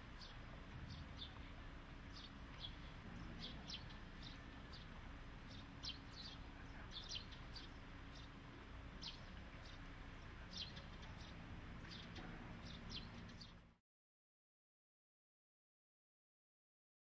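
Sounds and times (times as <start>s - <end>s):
faint low hum: 0.0s - 13.8s
small birds chirping: 0.0s - 13.8s.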